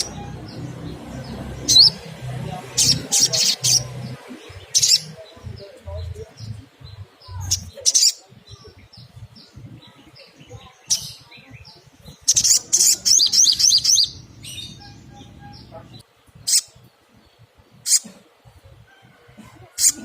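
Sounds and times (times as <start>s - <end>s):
sunbird singing: 0.0s - 19.2s.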